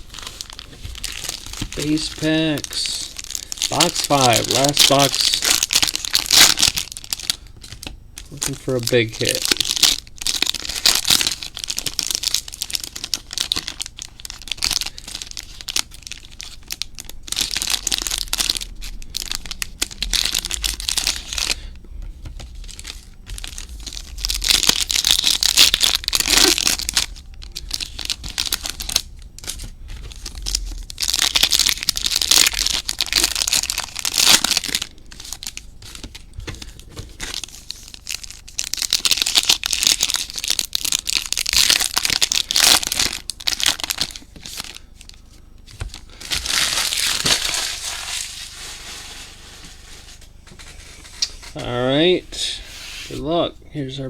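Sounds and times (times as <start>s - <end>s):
wrappers tearing and crinkling: 0.0s - 21.7s, 22.4s - 51.6s.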